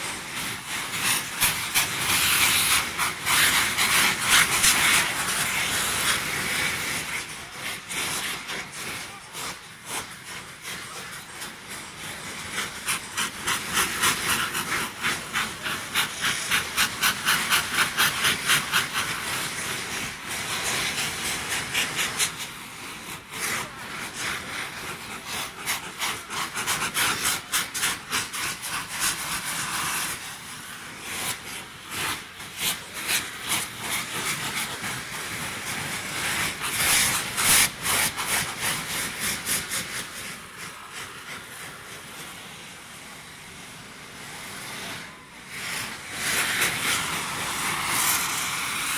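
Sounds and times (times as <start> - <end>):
fireworks hissing: 0.0 - 48.9
rapid crackling pops: 0.1 - 42.3, 45.6 - 48.9.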